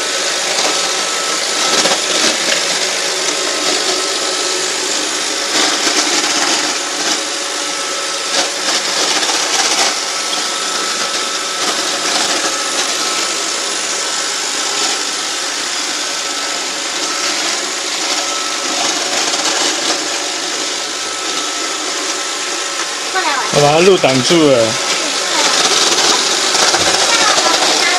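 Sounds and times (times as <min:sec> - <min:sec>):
robot vacuum whirring: 0:00.0 - 0:27.9.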